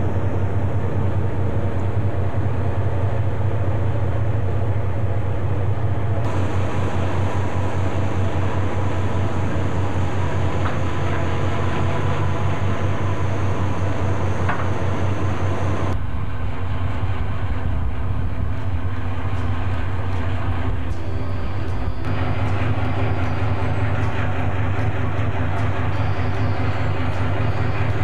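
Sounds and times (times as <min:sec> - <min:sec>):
diesel engine drone: 0:00.0 - 0:28.0.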